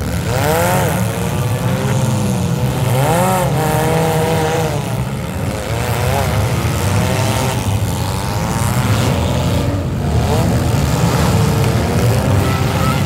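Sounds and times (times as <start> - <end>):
car engine revving: 0.0 - 13.0
car engines running: 0.0 - 13.0.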